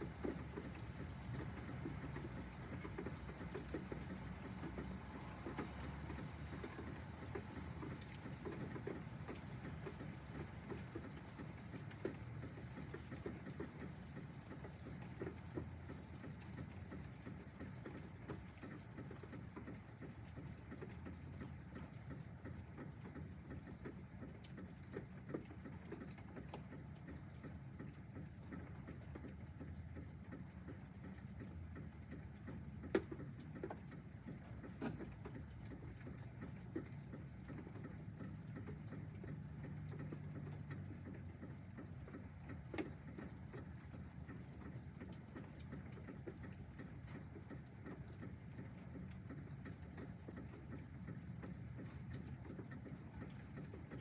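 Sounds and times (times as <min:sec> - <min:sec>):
drips ticking: 0:00.0 - 0:54.0
faint steady rain: 0:00.0 - 0:54.0.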